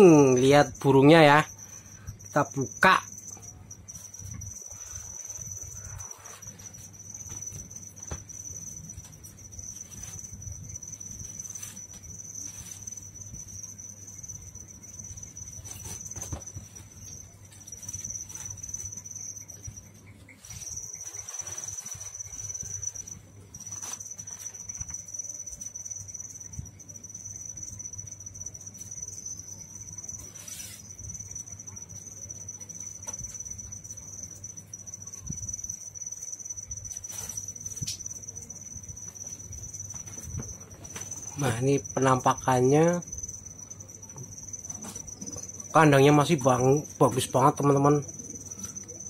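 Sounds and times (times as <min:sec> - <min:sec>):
cricket trilling: 0:00.0 - 0:49.0.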